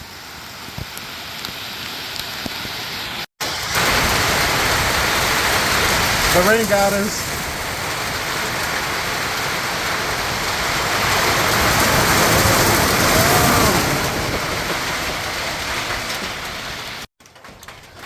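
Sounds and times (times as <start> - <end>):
heavy rain pouring: 0.0 - 17.1.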